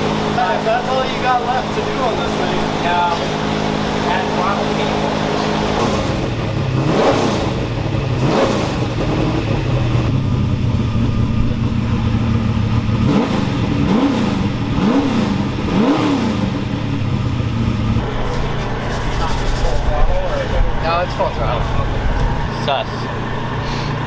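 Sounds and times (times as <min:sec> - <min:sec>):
truck engine idling and revving: 0:00.0 - 0:24.0.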